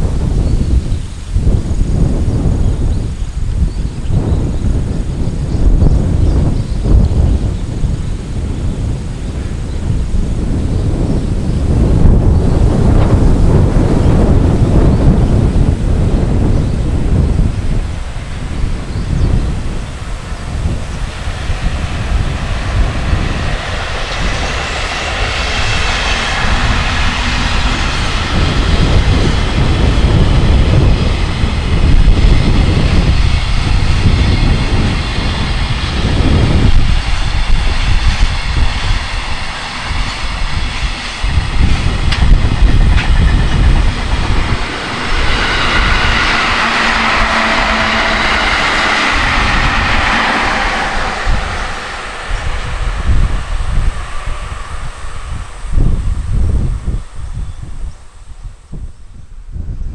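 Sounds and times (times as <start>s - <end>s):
freight train wagons rolling on rails: 0.0s - 58.5s
wind buffeting microphone: 0.0s - 59.9s.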